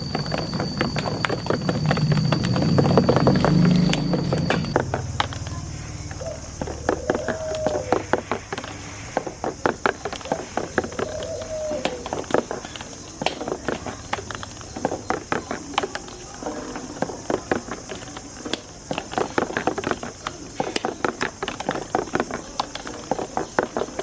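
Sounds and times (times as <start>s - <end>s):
marbles clattering on a track: 0.0s - 24.0s.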